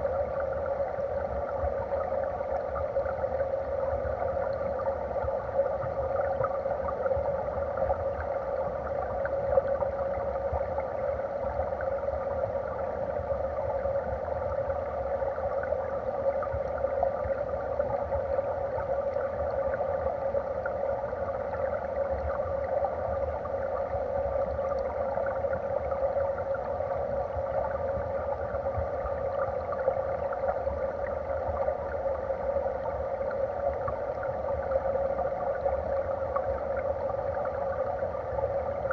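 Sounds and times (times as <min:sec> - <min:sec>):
muffled underwater stream rush: 0:00.0 - 0:38.9.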